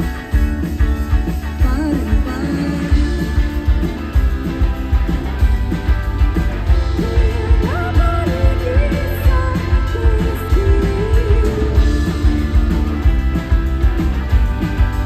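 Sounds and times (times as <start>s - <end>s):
drum beat: 0.0s - 15.0s.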